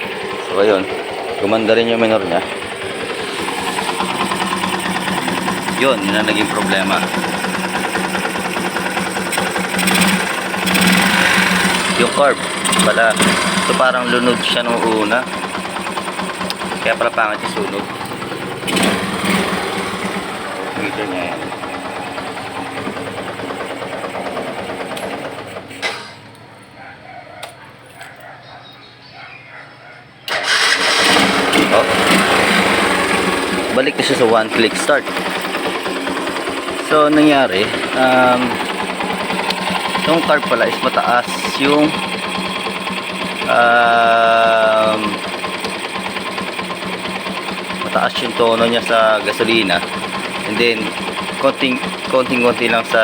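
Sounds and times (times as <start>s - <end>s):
motorcycle engine idling: 0.0s - 25.8s, 30.4s - 53.0s.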